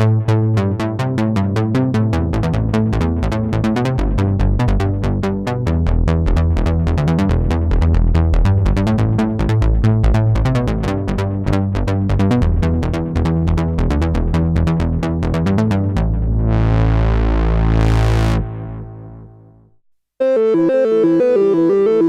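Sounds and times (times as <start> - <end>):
synthesizer bass in fast rhythm: 0.0 - 22.0.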